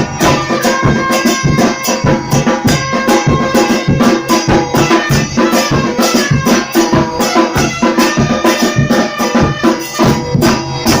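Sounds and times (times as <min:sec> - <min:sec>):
held melodic notes: 0:00.0 - 0:11.0
percussion ensemble drumming: 0:00.0 - 0:11.0.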